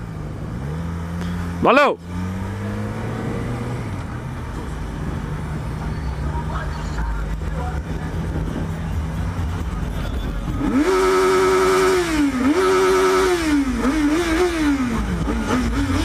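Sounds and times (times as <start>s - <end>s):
motorcycle engine revving: 0.0s - 6.3s, 7.2s - 16.0s.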